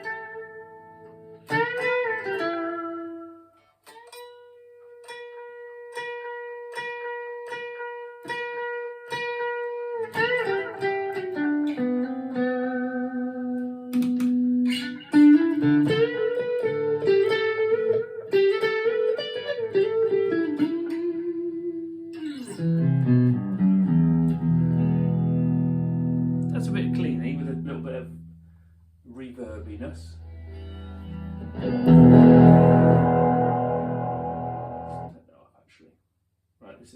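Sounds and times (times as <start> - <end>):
clean electric guitar playing: 0.0 - 28.6, 29.5 - 35.2.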